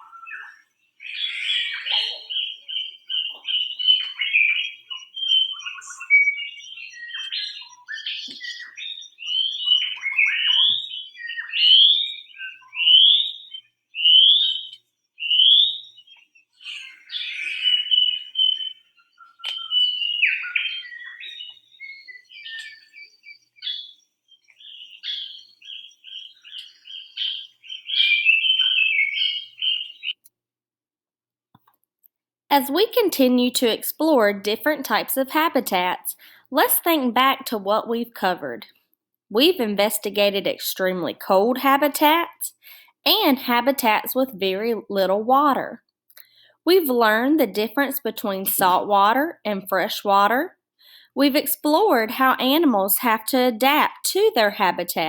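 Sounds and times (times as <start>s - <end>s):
birds chirping: 0.0s - 30.3s, 32.5s - 38.7s, 39.3s - 55.0s.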